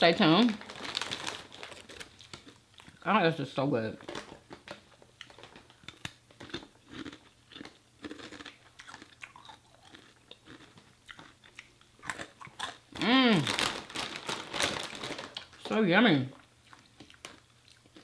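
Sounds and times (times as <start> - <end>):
person chewing crunchy food: 0.7 - 3.0, 5.1 - 15.6, 16.4 - 18.0.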